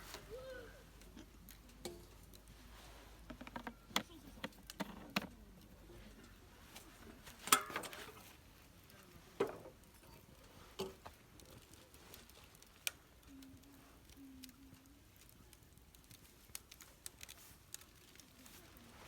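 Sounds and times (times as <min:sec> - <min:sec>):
campfire wood crackling: 0:00.0 - 0:19.0.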